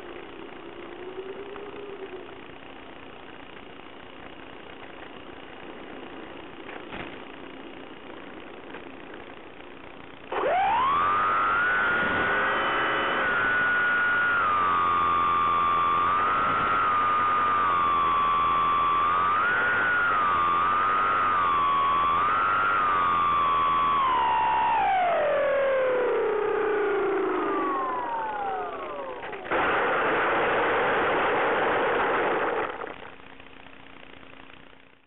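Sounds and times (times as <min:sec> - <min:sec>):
electric motor whining: 0:00.0 - 0:33.2.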